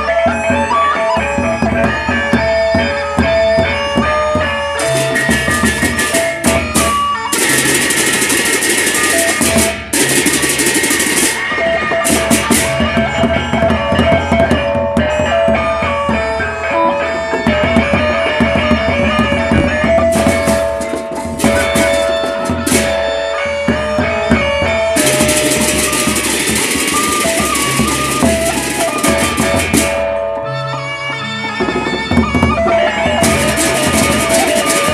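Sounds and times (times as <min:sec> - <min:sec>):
gamelan playing: 0:00.0 - 0:34.9
barrel drums beaten with sticks: 0:03.2 - 0:30.2, 0:31.6 - 0:34.9
cymbals clashing: 0:04.0 - 0:30.8, 0:33.1 - 0:34.9.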